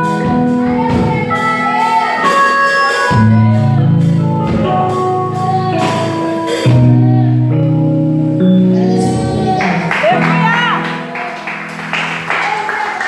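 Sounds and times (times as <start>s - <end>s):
band playing worship song: 0.0s - 13.0s.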